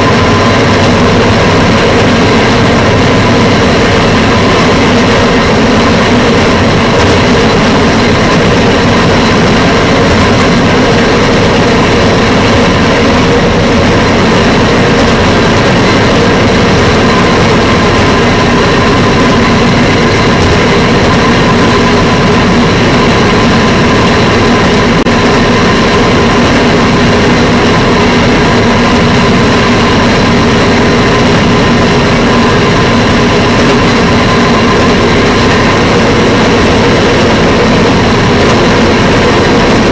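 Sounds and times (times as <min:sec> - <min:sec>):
rail vehicle engine droning: 0:00.0 - 0:39.9.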